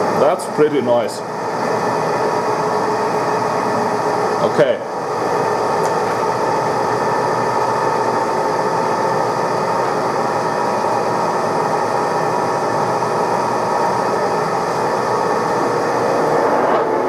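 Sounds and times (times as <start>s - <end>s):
lathe cutting metal: 1.2s - 17.0s.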